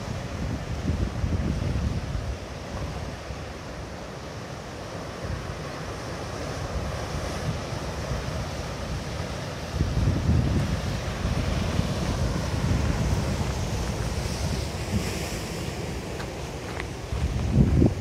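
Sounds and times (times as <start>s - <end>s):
wind buffeting microphone: 0.0s - 3.5s, 6.6s - 18.0s
ocean surf: 0.0s - 18.0s.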